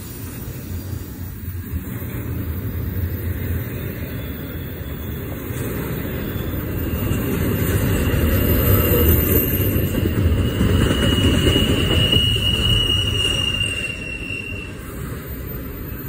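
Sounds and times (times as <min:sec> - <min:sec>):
train cars rumbling past: 0:00.0 - 0:16.0
high wheel squeal: 0:02.7 - 0:16.0.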